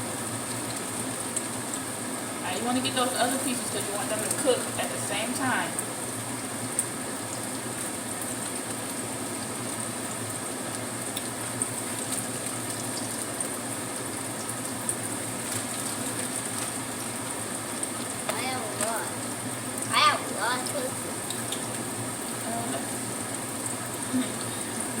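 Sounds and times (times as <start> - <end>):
tofu sizzling in hot oil: 0.0 - 25.0.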